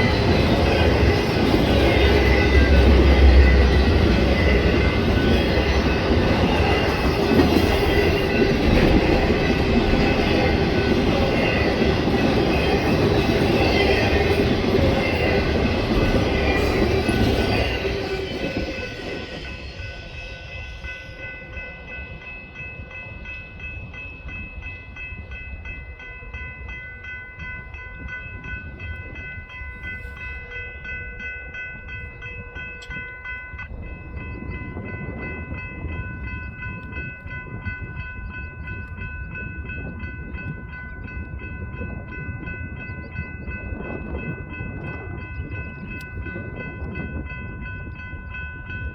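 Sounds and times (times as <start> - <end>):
train rolling past: 0.0 - 48.9.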